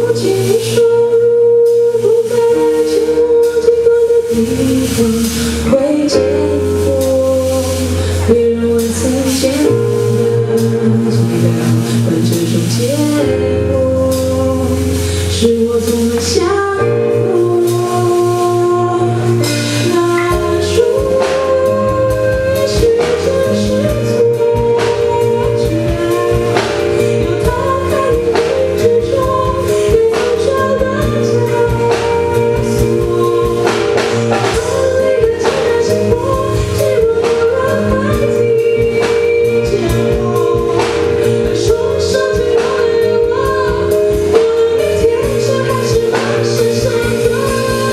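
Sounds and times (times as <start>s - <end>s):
bass: 0.0s - 47.9s
keyboard: 0.0s - 47.9s
person singing: 0.0s - 47.9s
steady drum beat: 0.0s - 47.9s.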